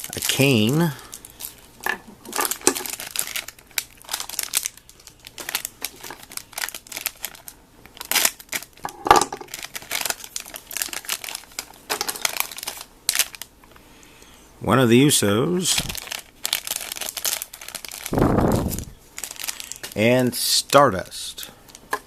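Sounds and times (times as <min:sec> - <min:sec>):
packaging wrappers crinkling: 0:00.0 - 0:13.5, 0:15.6 - 0:22.0.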